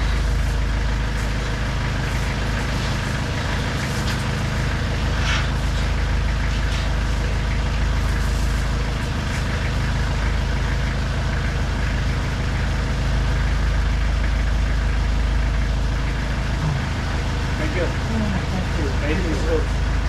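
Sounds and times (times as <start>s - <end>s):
forklift engine idling: 0.0s - 20.0s.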